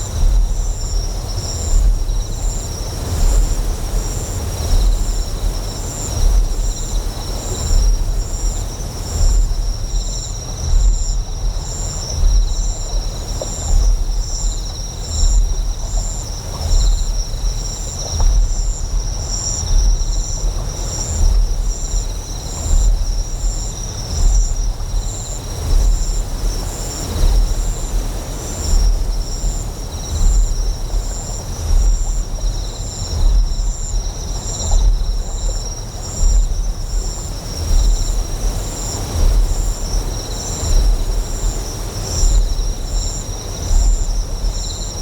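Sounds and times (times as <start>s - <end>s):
flowing water: 0.0s - 45.0s
insects chirping: 0.0s - 45.0s.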